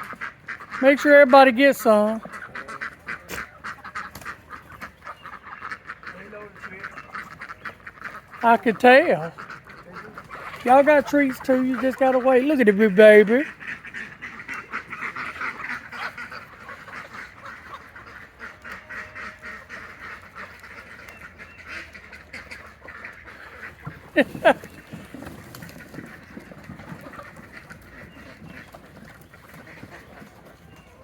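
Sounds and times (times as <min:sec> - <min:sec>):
farmyard fowl calling: 0:00.0 - 0:31.0.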